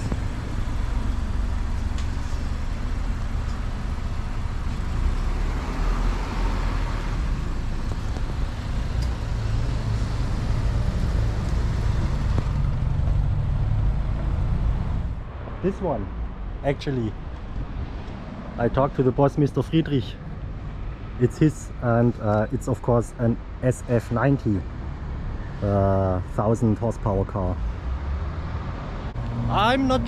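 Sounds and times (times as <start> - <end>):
vehicle low rumble: 0.0 - 30.0.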